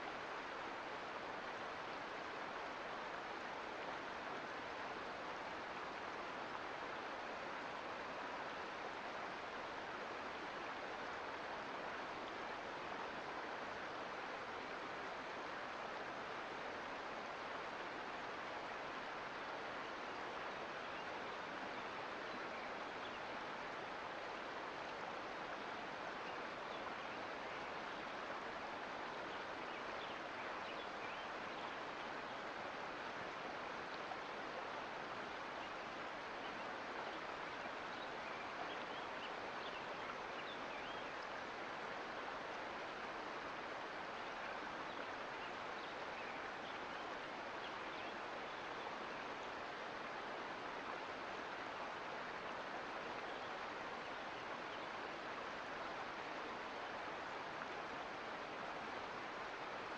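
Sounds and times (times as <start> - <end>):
creek water flowing: 0.0 - 59.9.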